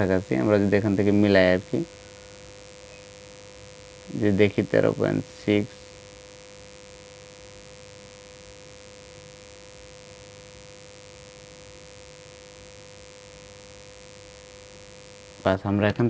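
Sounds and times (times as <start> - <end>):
inverter humming: 0.0 - 16.0
light hiss: 0.0 - 16.0.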